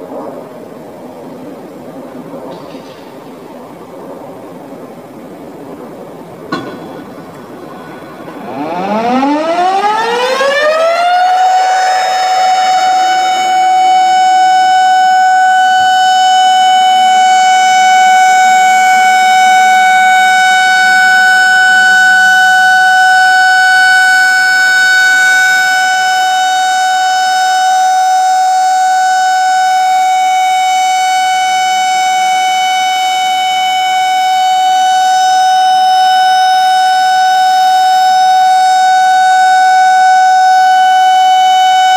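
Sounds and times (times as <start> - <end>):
warning siren wailing: 3.2 - 41.9.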